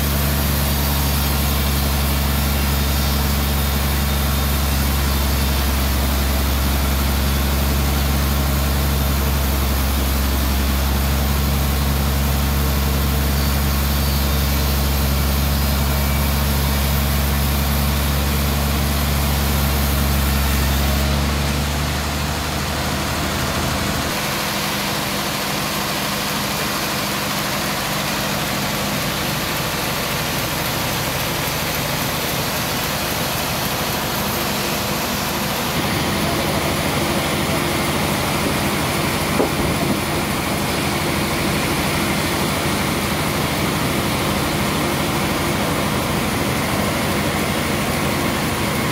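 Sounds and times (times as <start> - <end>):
band sawmill cutting a log: 0.0 - 48.9.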